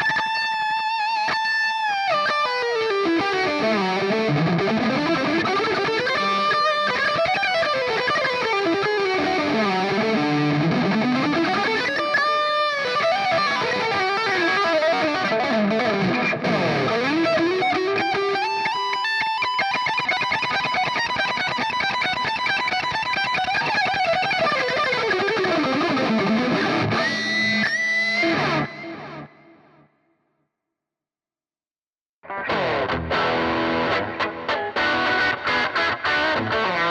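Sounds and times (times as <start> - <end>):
electric guitar lead improvisation: 0.0 - 29.9, 32.2 - 36.9.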